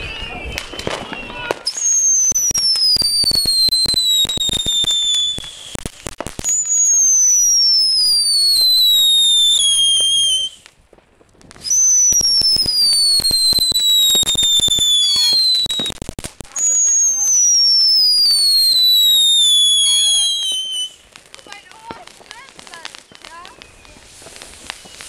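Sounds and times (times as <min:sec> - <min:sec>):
firework whistles falling in pitch: 0:00.0 - 0:10.6, 0:11.6 - 0:21.6, 0:22.7 - 0:25.0
fireworks crackling: 0:00.0 - 0:25.0.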